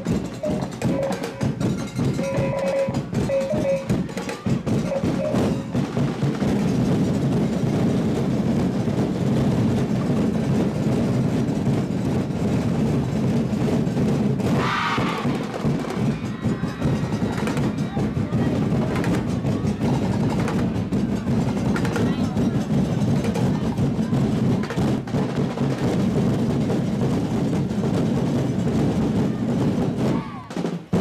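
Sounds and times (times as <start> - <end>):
drums playing rapid beats: 0.0 - 31.0.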